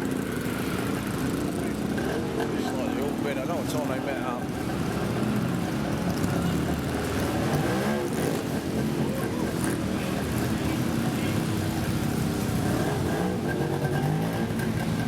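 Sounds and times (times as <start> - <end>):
motorcycle engine revving: 0.0 - 15.0
motorcycle engines running: 0.0 - 15.0.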